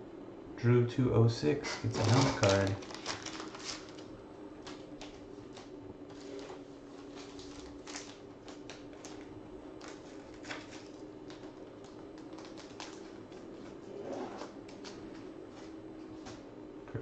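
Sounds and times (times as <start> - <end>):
steady low hum: 0.0 - 17.0
trading cards and plastic sleeve rustling: 1.7 - 15.7.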